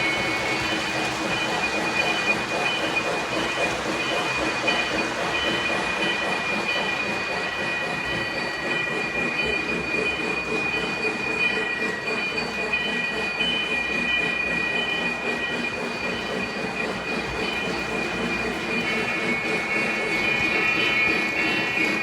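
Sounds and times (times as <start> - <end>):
model train rumbling on track: 0.0 - 22.0.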